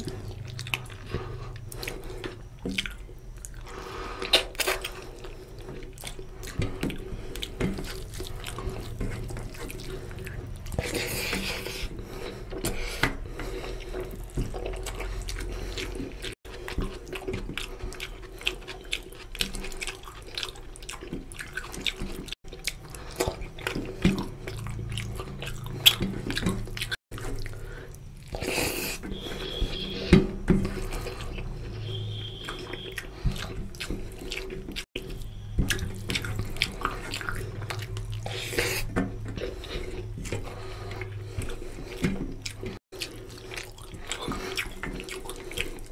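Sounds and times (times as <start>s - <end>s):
chewing: 0.0s - 45.9s.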